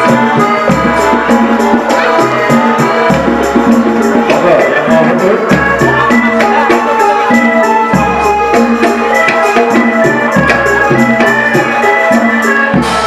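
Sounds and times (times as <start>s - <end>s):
lively music with drum beat: 0.0s - 13.0s.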